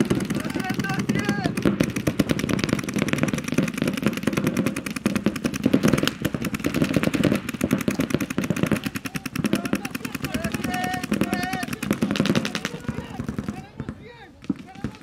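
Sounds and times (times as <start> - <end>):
paintball markers firing rapidly: 0.0 - 15.0.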